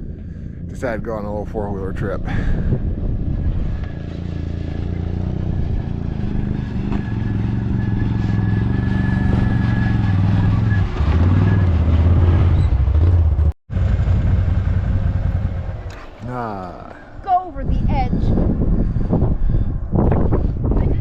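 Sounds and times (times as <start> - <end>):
four-wheeler engine running: 0.0 - 18.2.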